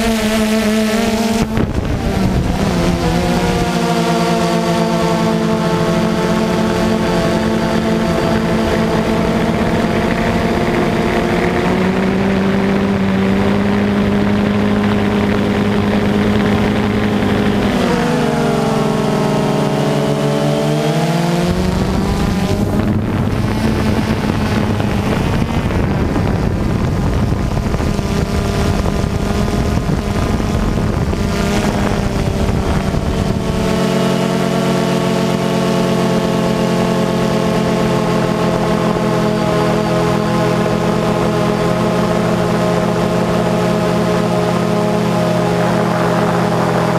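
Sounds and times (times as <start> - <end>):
quadcopter propellers whirring: 0.0 - 46.9.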